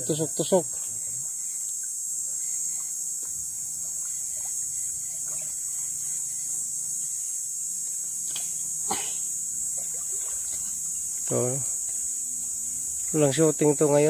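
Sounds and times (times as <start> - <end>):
high-pitched insect drone: 0.0 - 14.0
water sloshing and trickling: 2.7 - 14.0.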